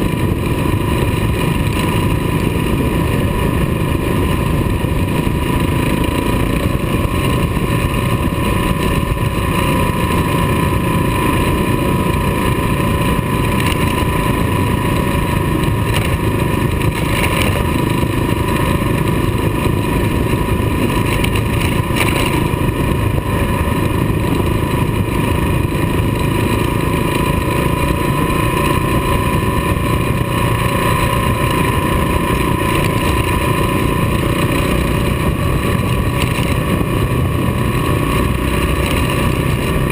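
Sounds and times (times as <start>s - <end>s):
motorcycle engine running: 0.0s - 39.9s
thin steady whine: 0.0s - 39.9s
wind noise: 0.0s - 39.9s.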